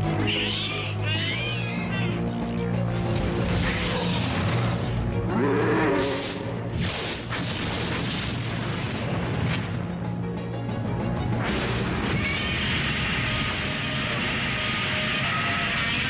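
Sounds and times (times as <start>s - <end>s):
dramatic soundtrack music: 0.0s - 16.0s.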